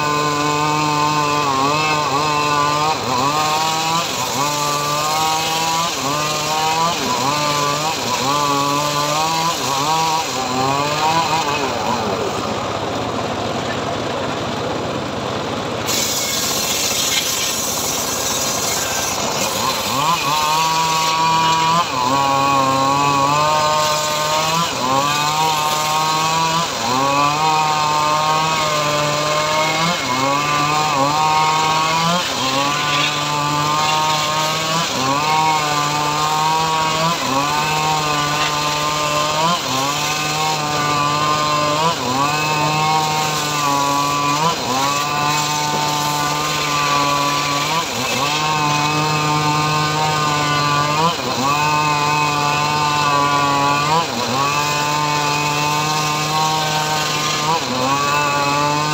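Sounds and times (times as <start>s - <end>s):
sawmill motor cutting wood: 0.0s - 58.9s.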